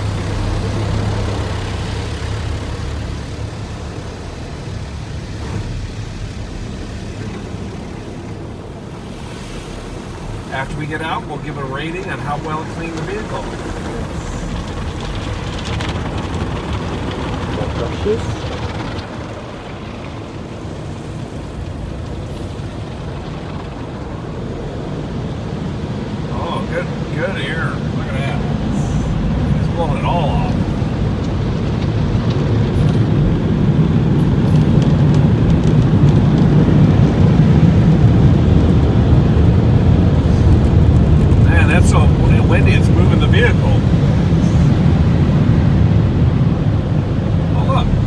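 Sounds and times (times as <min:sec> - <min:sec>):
car wash equipment rushing: 0:00.0 - 0:48.0.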